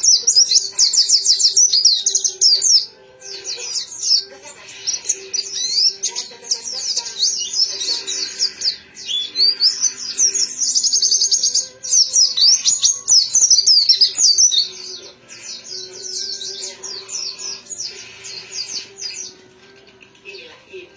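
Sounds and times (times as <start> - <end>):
white-eye twittering song: 0.0 - 19.6.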